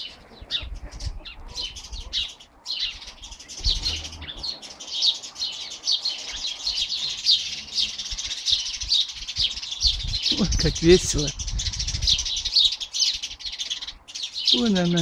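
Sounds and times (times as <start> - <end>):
small songbirds chirping: 0.0 - 15.0.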